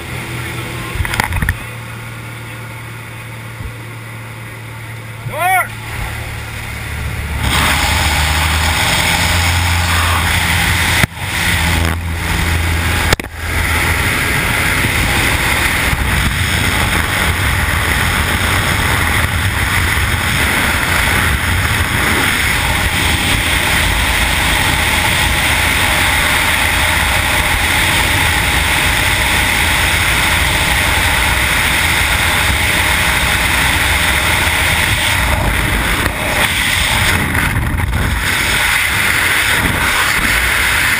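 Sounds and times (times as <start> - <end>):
plane engine and propeller: 0.0 - 40.9
wind buffeting microphone: 5.8 - 40.9
wind rushing: 5.8 - 40.9.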